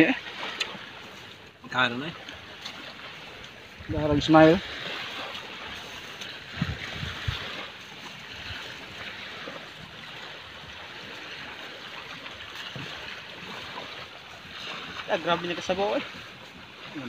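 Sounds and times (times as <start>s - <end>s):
waves: 0.0s - 17.0s
wind: 0.0s - 17.0s.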